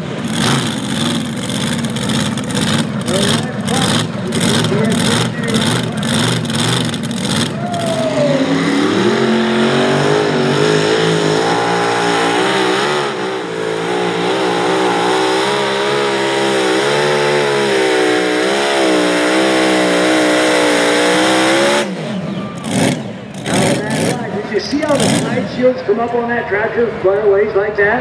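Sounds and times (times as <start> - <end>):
tractor engine at high revs: 0.0 - 25.9.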